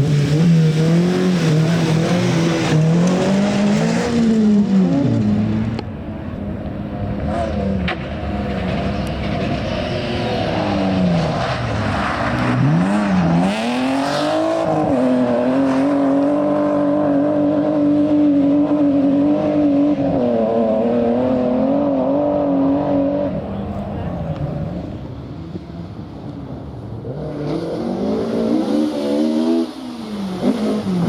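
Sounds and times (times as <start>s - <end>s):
rally car engine revving: 0.0s - 25.7s, 26.6s - 31.0s.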